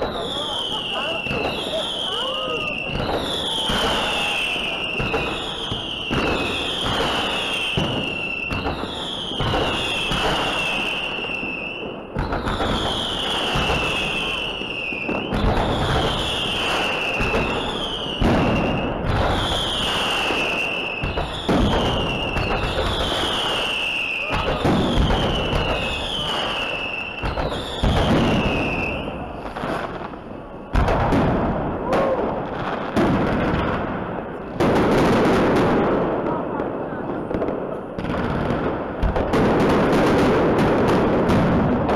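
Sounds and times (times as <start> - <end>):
falling firework whistle: 0.0 - 33.7
fireworks bangs: 0.0 - 41.9
fireworks crackling: 0.0 - 41.9.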